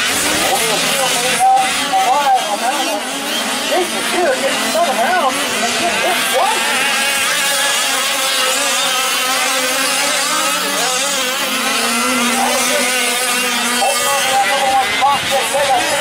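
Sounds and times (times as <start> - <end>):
small two-stroke engines revving: 0.0 - 16.0.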